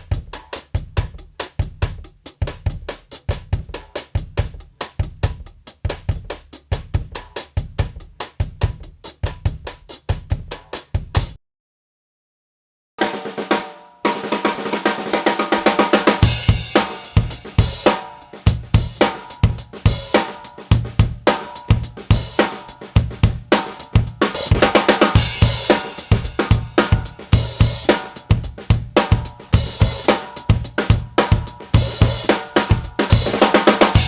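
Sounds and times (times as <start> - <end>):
drum kit groove with snare: 0.0 - 11.4, 13.0 - 34.0.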